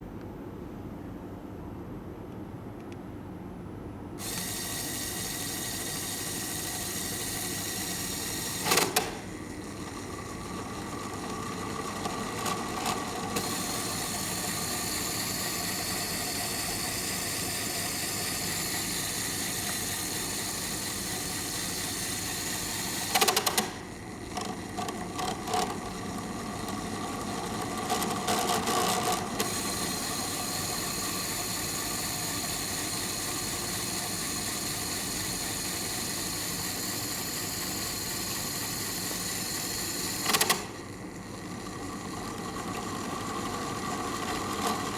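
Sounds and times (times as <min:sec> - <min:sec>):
small electric motor whirring: 0:04.2 - 0:44.9.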